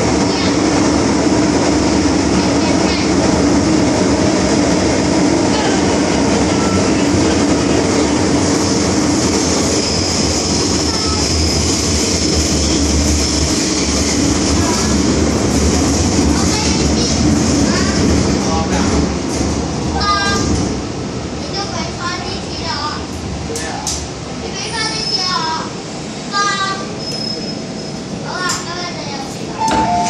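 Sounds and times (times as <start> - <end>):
train rumble and hiss: 0.0 - 30.0.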